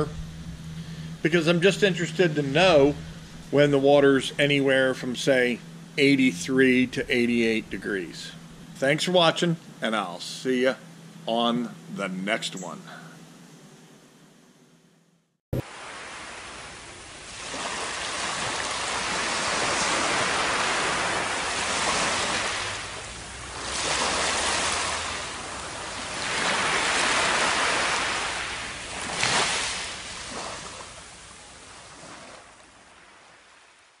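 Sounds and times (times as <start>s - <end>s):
ocean surf on beach: 0.0s - 9.3s, 15.6s - 34.0s.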